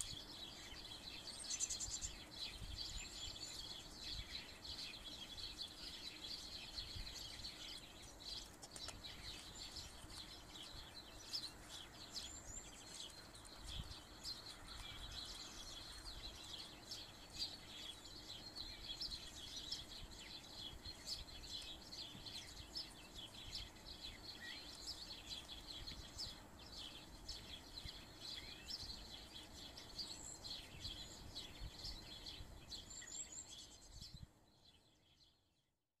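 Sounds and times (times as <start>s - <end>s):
small birds chirping: 0.0s - 35.7s.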